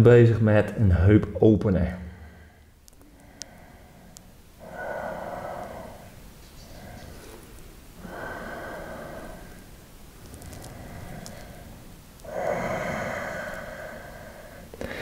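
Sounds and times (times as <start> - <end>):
man breathing slowly: 2.1 - 15.0.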